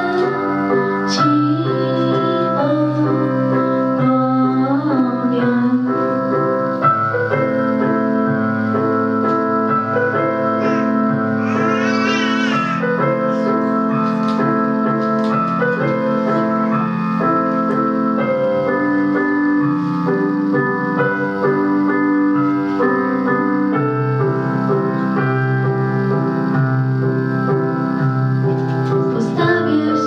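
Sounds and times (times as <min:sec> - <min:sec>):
keyboard playing chords and melody: 0:00.0 - 0:30.0.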